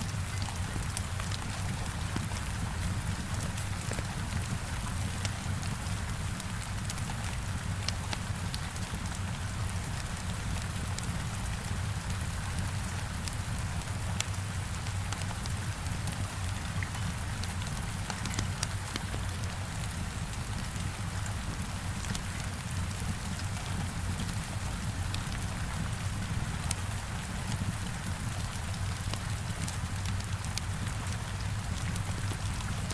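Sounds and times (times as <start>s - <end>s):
heavy rain on window: 0.0s - 32.9s.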